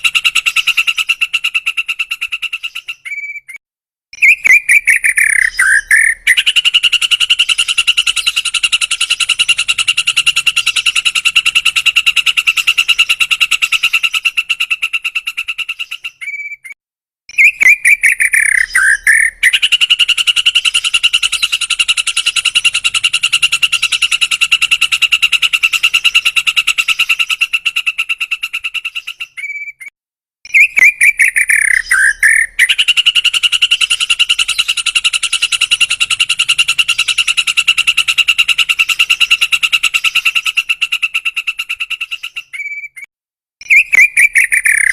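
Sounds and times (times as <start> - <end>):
bird singing a fast trill: 2.2 - 3.6, 4.2 - 14.4, 15.6 - 27.5, 28.8 - 29.9, 30.5 - 40.7, 41.7 - 44.9.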